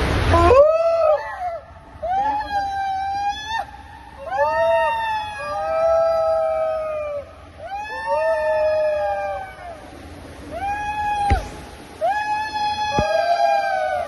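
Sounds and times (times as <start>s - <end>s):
long howling calls: 0.3s - 14.0s.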